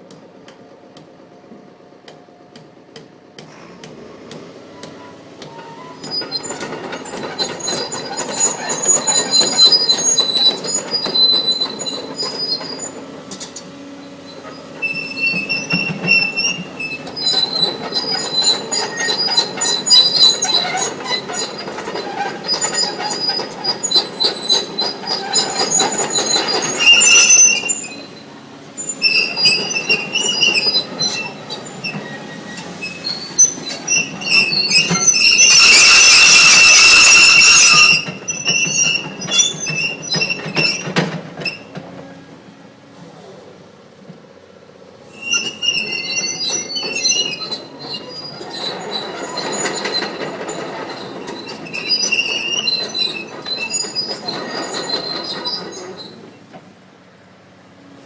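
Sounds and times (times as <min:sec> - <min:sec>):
excavator working: 0:00.1 - 0:58.0
steel parts squealing: 0:04.8 - 0:41.8, 0:45.1 - 0:56.2.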